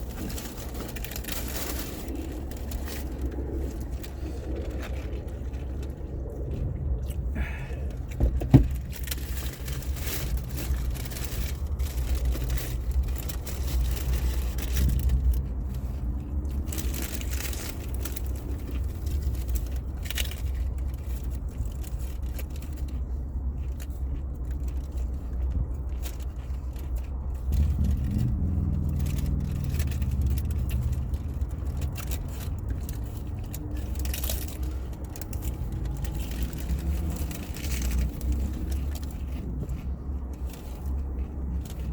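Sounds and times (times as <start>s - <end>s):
low rumble: 0.0s - 23.8s, 24.4s - 41.9s
chewing crunchy tacos: 0.0s - 41.9s.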